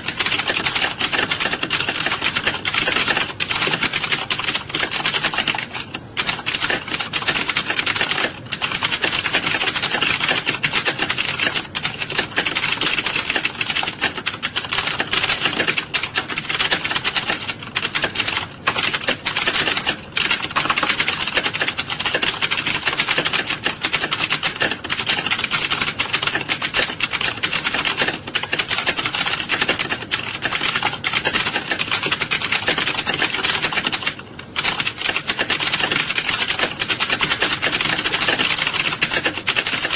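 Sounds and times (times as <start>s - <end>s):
keyboards typing clatter: 0.0s - 39.9s.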